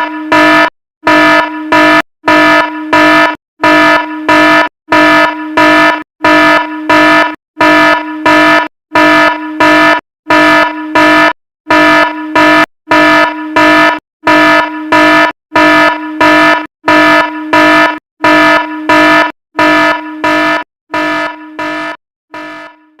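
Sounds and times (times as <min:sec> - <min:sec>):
fire alarm horn buzzing: 0:00.0 - 0:23.0.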